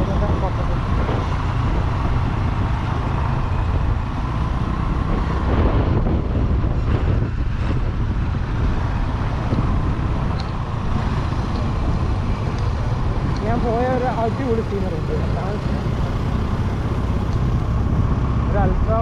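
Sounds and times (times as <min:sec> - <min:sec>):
motorbike engine running: 0:00.0 - 0:19.0
wind buffeting microphone: 0:00.0 - 0:19.0.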